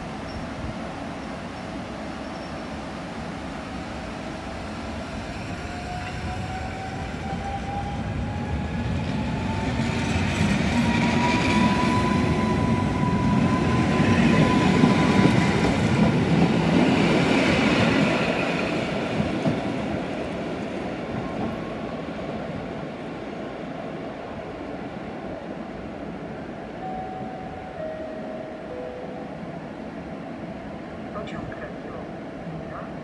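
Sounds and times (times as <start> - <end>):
wheels rumbling on rail: 0.0 - 33.0.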